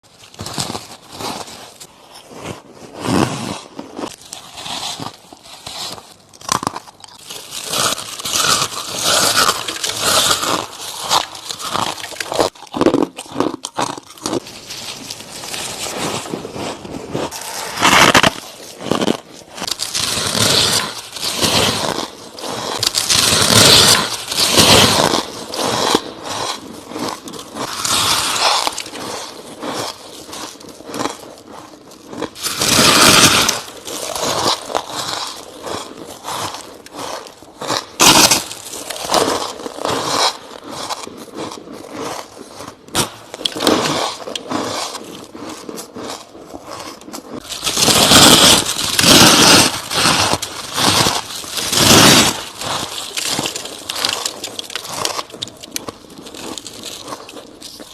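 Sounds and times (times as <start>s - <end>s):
chewing and crunching frost: 0.0s - 57.9s.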